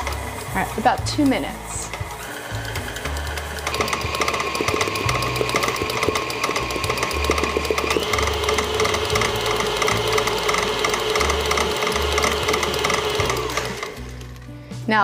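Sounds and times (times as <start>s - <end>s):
paddle and gears clattering: 0.0s - 14.4s
stand mixer motor whine: 0.0s - 14.5s.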